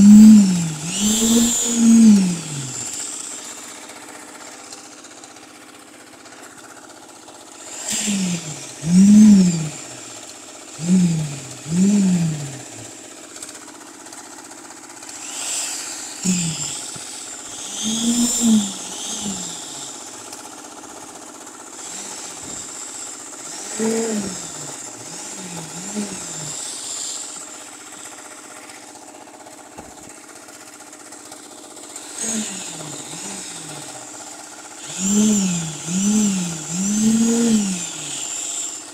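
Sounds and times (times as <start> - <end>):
concrete poker vibrator motor: 0.0 - 38.9.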